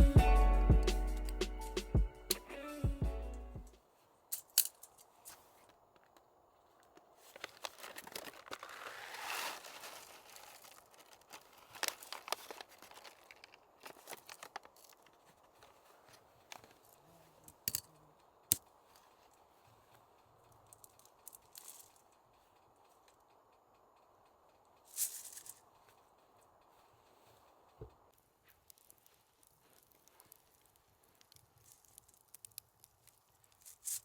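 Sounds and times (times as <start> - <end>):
rustling and crinkling: 3.8 - 34.0.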